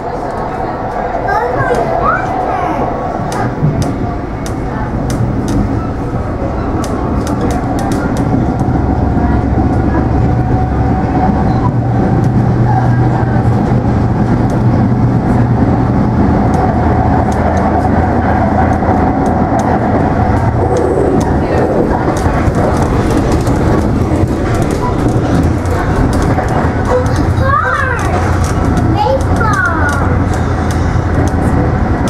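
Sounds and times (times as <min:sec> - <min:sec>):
train wheels rumbling on rail: 0:00.0 - 0:32.0
train whine: 0:00.0 - 0:32.0.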